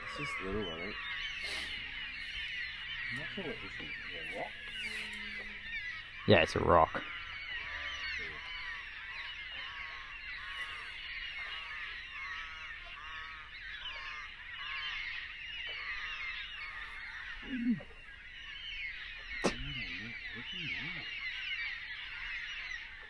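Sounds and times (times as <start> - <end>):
birds chirping: 0.0 - 23.0
repeated arching bird call: 0.0 - 23.0.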